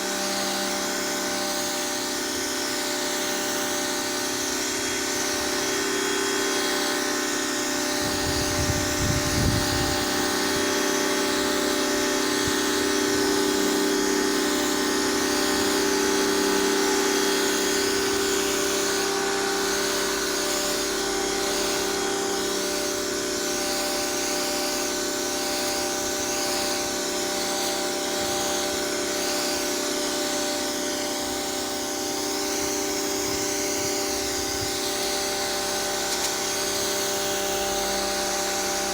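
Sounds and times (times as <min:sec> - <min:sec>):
pressure washer running: 0:00.0 - 0:38.9
water jet hissing on pavement: 0:02.7 - 0:38.9.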